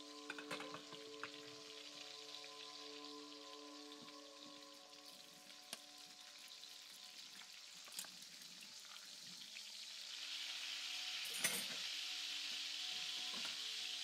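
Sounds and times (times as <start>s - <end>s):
food sizzling in hot pan: 0.0s - 14.0s.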